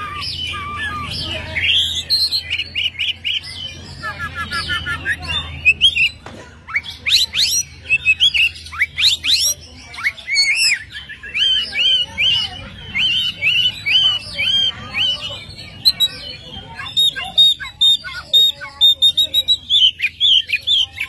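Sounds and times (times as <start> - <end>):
magpie-robin singing: 0.0 - 21.0.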